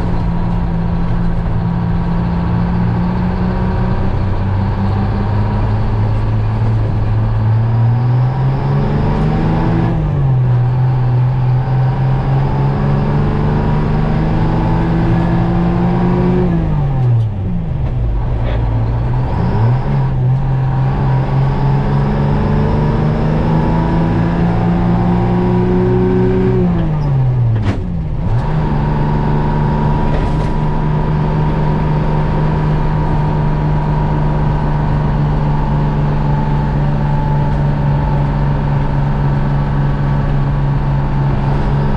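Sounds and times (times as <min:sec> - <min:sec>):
diesel engine revving through gears: 0:00.0 - 0:41.9.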